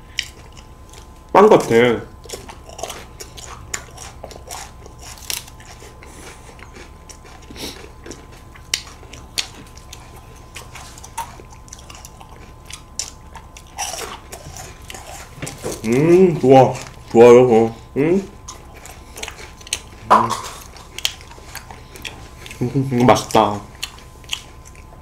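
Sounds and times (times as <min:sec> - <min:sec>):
chewing crunchy wafer cone: 0:00.0 - 0:25.0.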